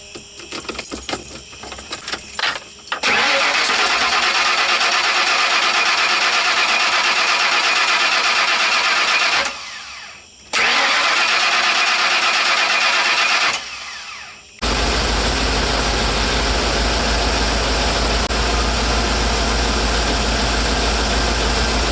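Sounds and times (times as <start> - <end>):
van engine starting and running: 3.0 - 21.9.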